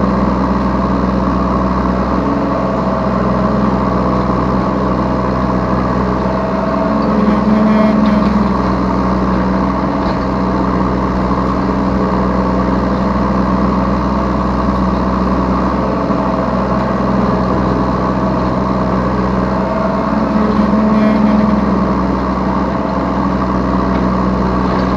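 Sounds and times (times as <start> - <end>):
mini excavator diesel engine running: 0.0 - 24.9.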